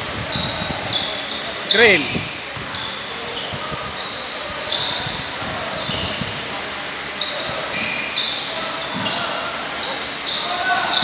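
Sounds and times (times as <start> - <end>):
shoes squeaking on hardwood: 0.3 - 6.6, 7.2 - 11.0.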